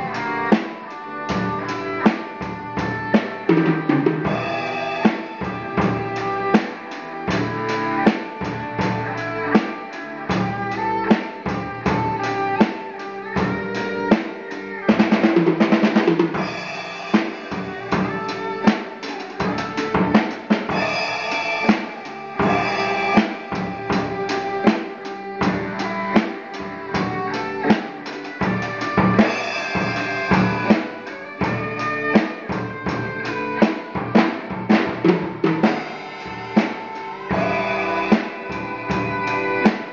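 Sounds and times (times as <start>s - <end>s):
drum kit kick and snare: 0.0s - 39.9s
electric guitar chords: 0.0s - 39.9s.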